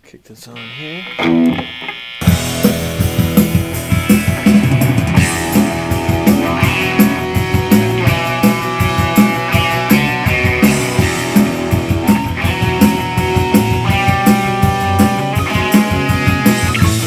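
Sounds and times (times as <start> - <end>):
electric guitar solo: 0.6 - 17.0
rock backing track with drums: 1.1 - 17.0.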